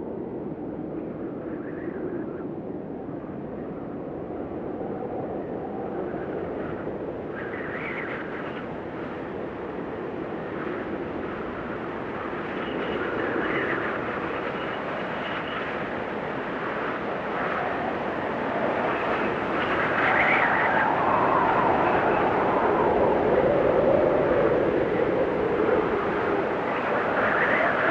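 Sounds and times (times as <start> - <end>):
blizzard wind whistling: 0.0 - 27.9.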